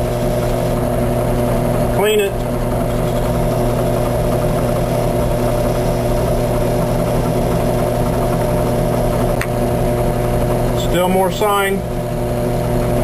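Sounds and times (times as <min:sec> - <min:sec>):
drill press motor humming: 0:00.0 - 0:13.0.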